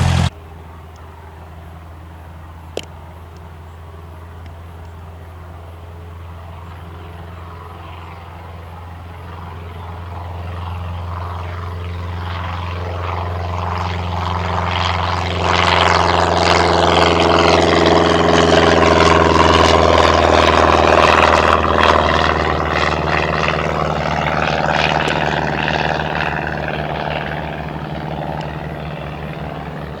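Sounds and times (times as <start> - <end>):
propeller plane passing by: 0.0 - 30.0.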